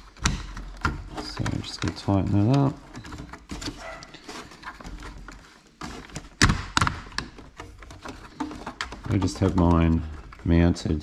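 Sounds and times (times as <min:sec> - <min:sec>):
cable plugs tapping and clicking: 0:00.0 - 0:11.0.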